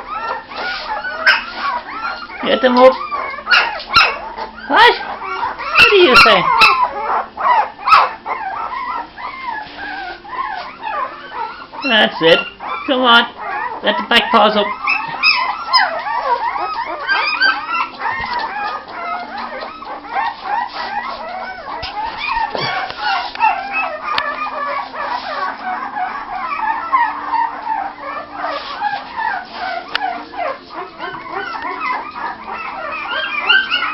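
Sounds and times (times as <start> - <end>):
puppies whining and yelping: 0.0 - 33.9.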